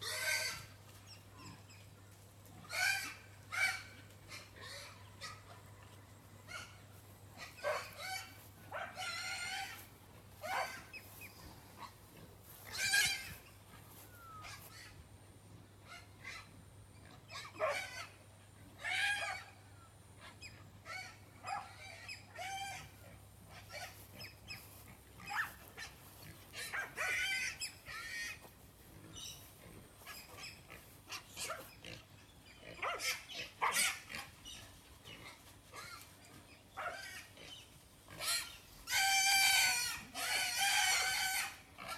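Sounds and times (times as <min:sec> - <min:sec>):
farm animals squealing: 0:00.0 - 0:01.9, 0:02.5 - 0:15.0, 0:15.8 - 0:41.9.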